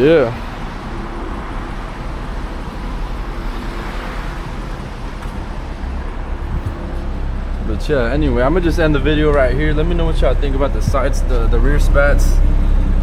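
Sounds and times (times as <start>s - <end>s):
car and road noise: 0.0s - 13.0s.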